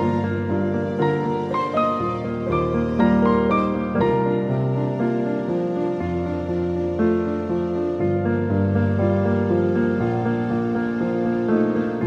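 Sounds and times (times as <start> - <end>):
music of sustained notes: 0.0 - 12.0.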